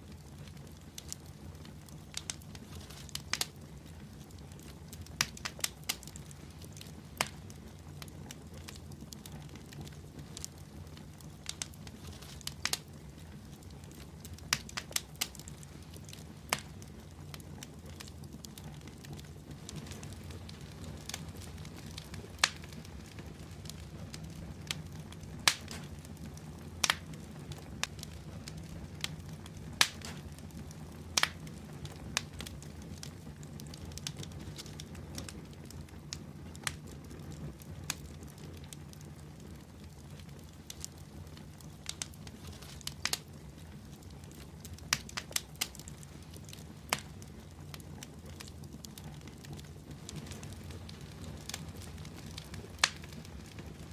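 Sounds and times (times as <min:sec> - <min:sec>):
fire crackling in a fireplace: 0:00.0 - 0:53.9
fire popping and snapping: 0:00.0 - 0:53.9.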